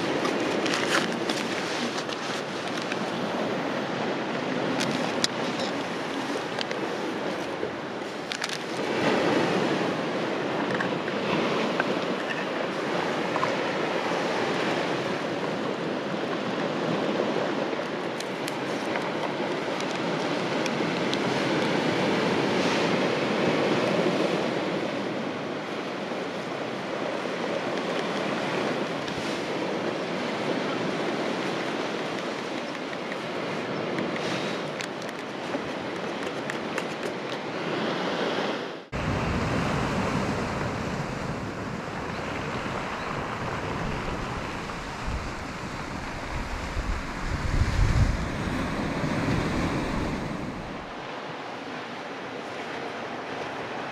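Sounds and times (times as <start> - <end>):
surf washing against rocks: 0.0 - 53.9.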